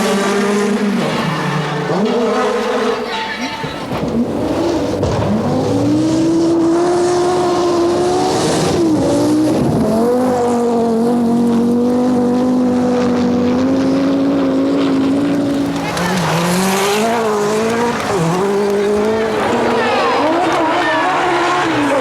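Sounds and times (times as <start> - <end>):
rally car engine pulling hard: 0.0 - 22.0.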